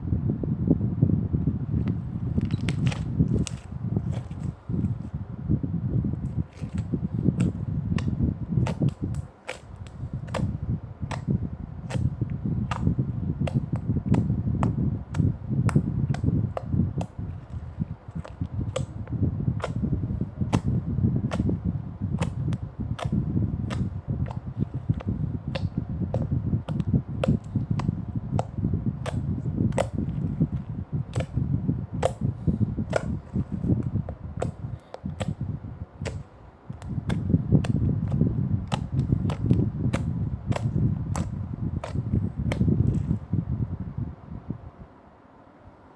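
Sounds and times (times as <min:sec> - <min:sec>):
slime squelching: 0:02.3 - 0:05.1, 0:06.2 - 0:31.4, 0:32.0 - 0:35.4, 0:36.0 - 0:43.3.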